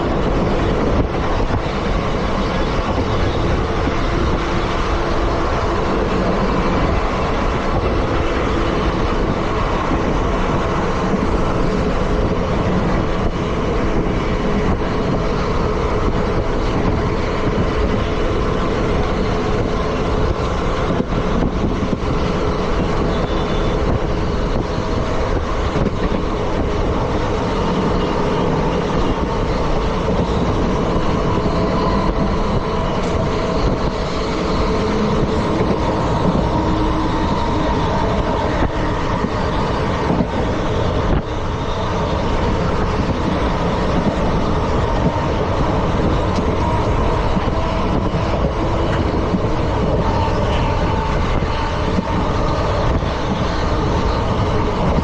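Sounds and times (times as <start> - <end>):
train coaches rumbling on track: 0.0 - 55.0.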